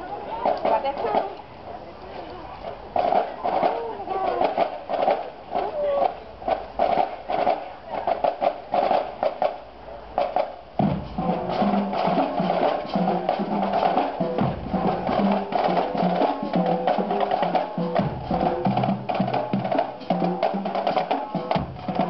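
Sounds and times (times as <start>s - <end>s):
marching band instruments: 0.0s - 1.4s, 2.6s - 22.0s
marching band drums: 0.3s - 1.4s, 2.7s - 22.0s.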